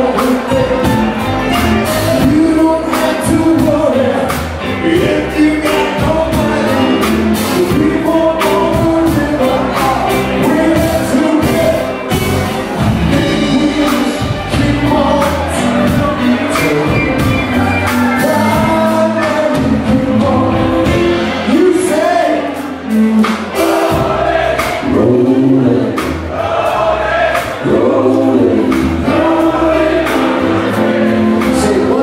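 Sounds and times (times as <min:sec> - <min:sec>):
man singing into microphone: 0:00.0 - 0:26.2, 0:27.6 - 0:32.0
drums steady beat: 0:00.0 - 0:32.0
keyboards: 0:00.0 - 0:32.0
live band playing: 0:00.0 - 0:32.0.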